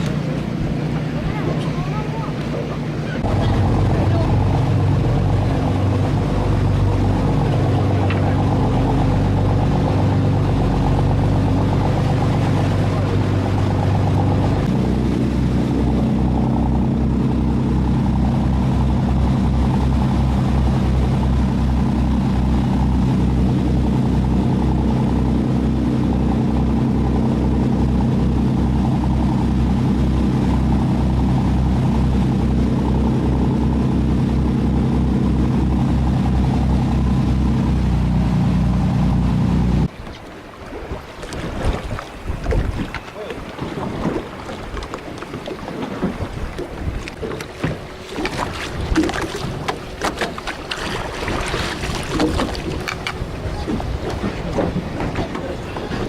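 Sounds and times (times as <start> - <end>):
boat engine throbbing: 0.0 - 56.0.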